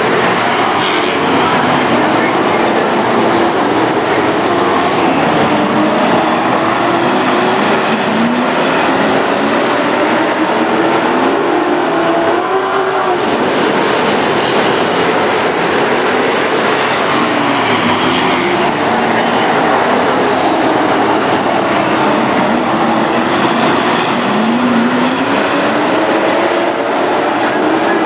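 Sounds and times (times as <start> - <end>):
race car engines running: 0.0 - 28.0.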